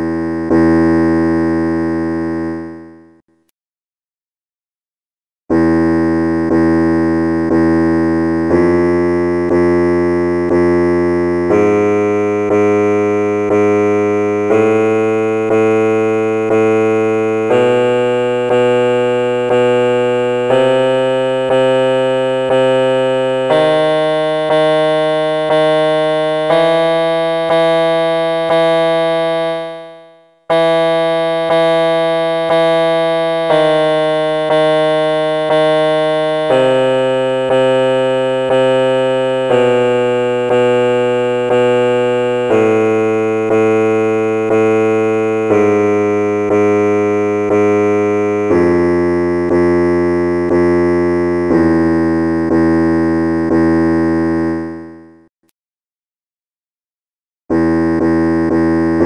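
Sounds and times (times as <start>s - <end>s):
electronic keyboard playing a scale: 0.0s - 3.2s, 5.5s - 55.3s, 57.5s - 59.0s.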